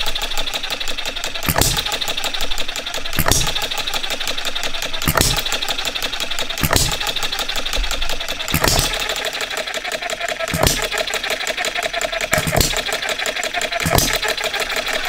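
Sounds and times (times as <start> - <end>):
engine firing stroke knocking: 0.0 - 15.0
model engine ticking clatter: 0.0 - 15.0.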